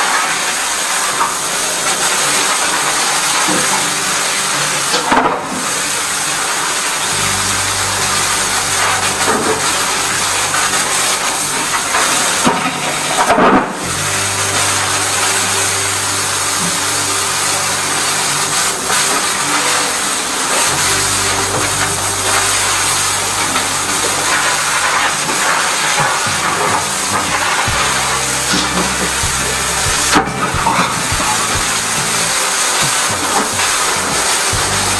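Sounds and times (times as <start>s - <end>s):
water jet hissing: 0.0s - 34.9s
pump humming: 5.6s - 34.9s.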